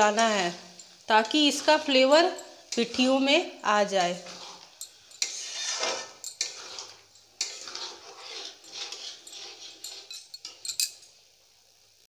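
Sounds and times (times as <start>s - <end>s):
spatula scraping thick gravy: 0.0s - 3.1s, 3.9s - 10.7s.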